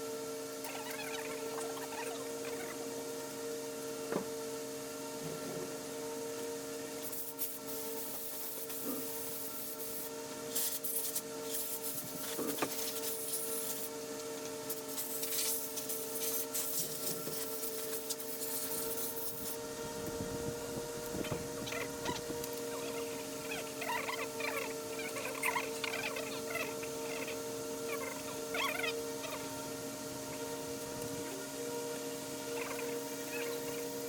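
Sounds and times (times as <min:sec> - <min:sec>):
steady tonal hum: 0:00.0 - 0:34.0.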